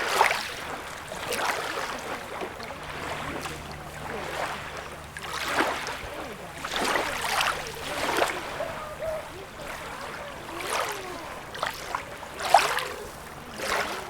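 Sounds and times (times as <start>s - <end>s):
sea water lapping at shore: 0.0s - 14.0s.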